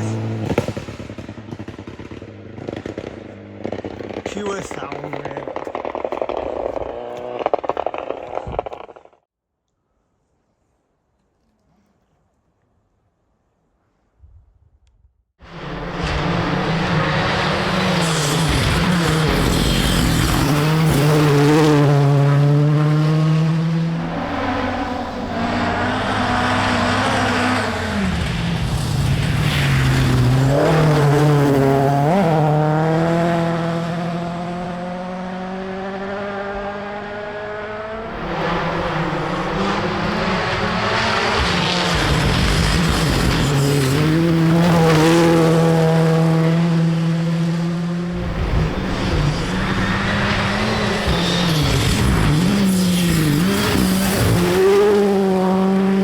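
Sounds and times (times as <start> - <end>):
rally car engines revving: 0.0 - 9.1, 15.5 - 56.0.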